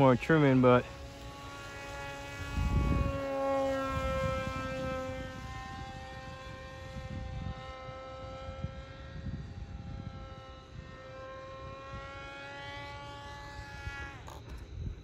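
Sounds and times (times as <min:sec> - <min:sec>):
electric motor and propeller whining: 0:00.0 - 0:15.0
wind rumbling on microphone: 0:00.0 - 0:15.0.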